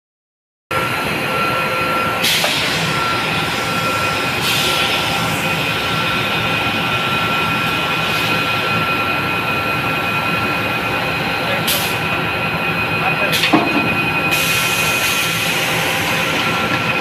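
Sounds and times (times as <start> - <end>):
centrifuge machine drone with whine: 0.7 - 17.0.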